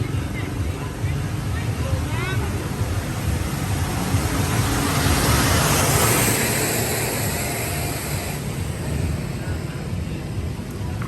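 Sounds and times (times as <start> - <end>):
road and wind hiss: 0.0 - 11.0
vehicle engine rumble: 0.0 - 11.0.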